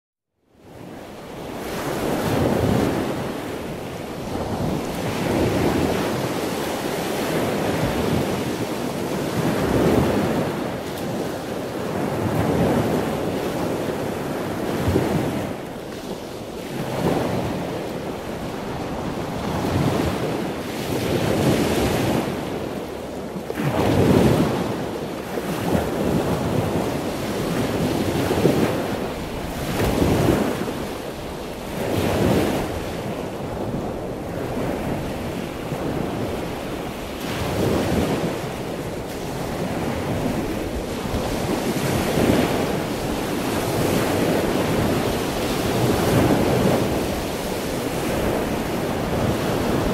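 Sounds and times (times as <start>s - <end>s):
wind buffeting microphone: 0.6s - 49.9s
water rushing along boat hull: 0.8s - 49.9s.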